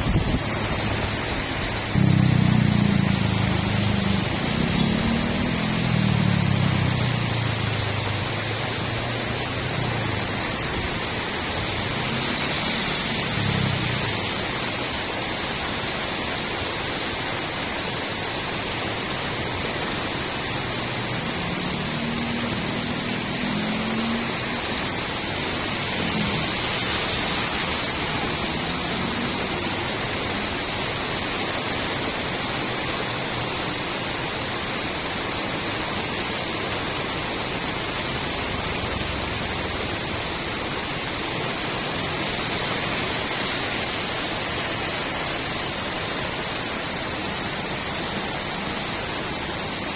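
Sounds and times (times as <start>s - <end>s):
rain falling on a street: 0.0s - 49.9s.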